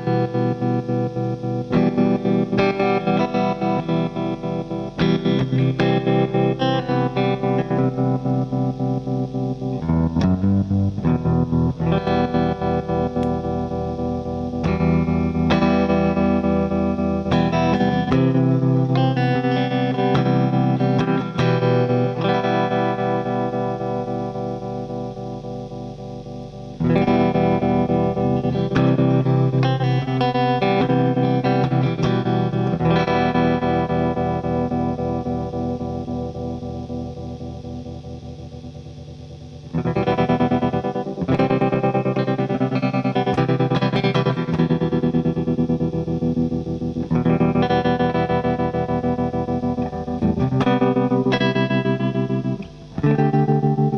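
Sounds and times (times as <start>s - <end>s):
electric guitar chords with tremolo: 0.0s - 53.9s.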